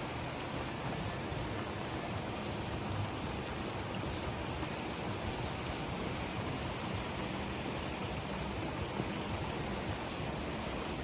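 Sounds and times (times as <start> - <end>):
rain: 0.0 - 11.0
river water rumbling: 0.0 - 11.0.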